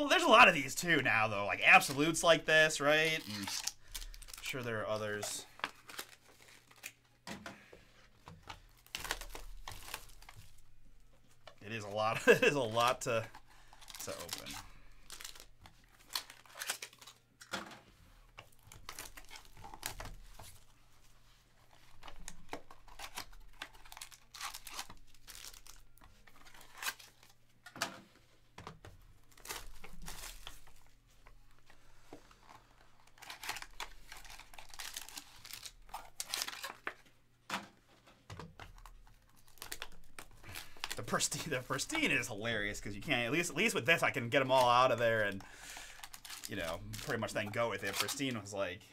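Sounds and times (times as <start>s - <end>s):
plastic wrapping torn and crinkled: 0.1s - 7.2s, 8.4s - 11.0s, 11.7s - 17.5s, 18.3s - 20.7s, 21.6s - 27.4s, 29.2s - 31.8s, 32.4s - 37.0s, 38.4s - 48.4s.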